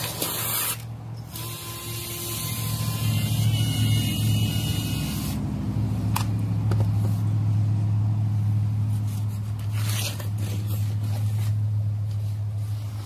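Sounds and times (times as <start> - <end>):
low engine hum: 0.8 - 13.0.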